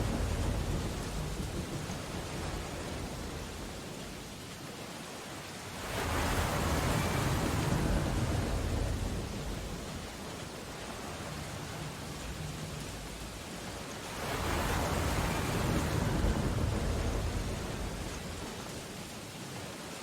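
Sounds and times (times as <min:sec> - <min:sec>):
rain on window glass: 0:00.0 - 0:20.0
stormy ocean surf: 0:00.0 - 0:20.0.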